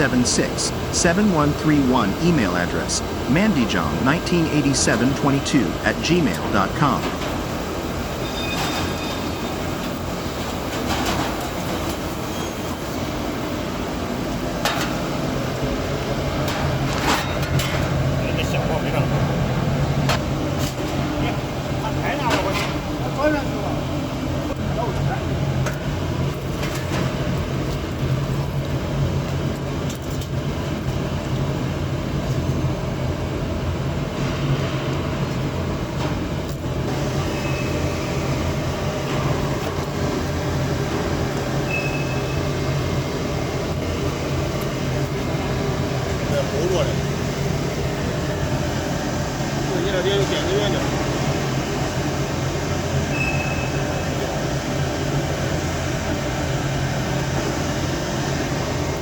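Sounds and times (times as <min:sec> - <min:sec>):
machinery hum: 0:00.0 - 0:59.0.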